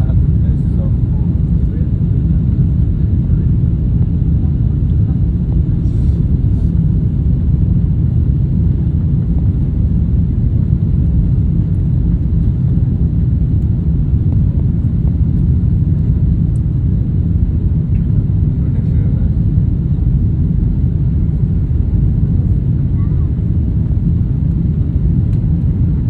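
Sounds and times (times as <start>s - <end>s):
jet airliners rumbling: 0.0s - 26.0s.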